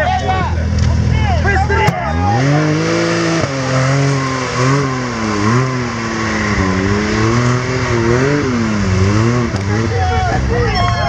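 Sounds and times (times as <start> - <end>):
engine revving up and down: 1.6 - 11.0.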